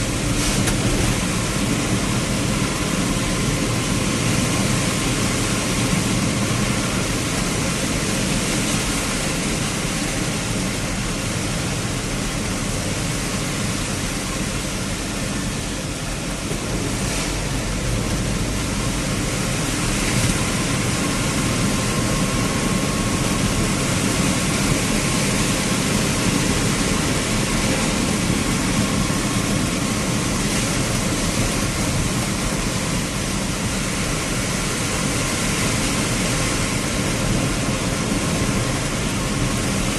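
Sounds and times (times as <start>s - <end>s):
heavy rain: 0.0s - 39.9s
vehicle engine and road noise: 0.0s - 39.9s
wind: 0.0s - 39.9s.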